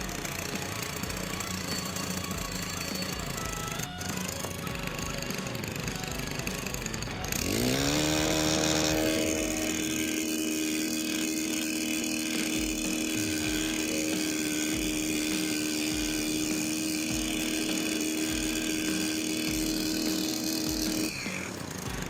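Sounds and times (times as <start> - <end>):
small engine running at high speed: 0.0 - 22.0.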